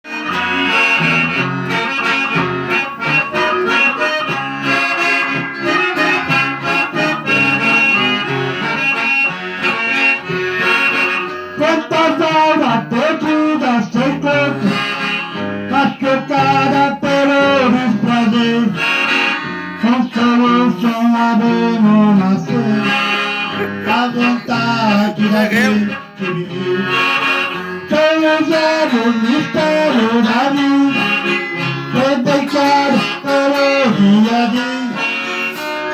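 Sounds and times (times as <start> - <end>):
instrumental music with held chords: 0.0 - 35.9.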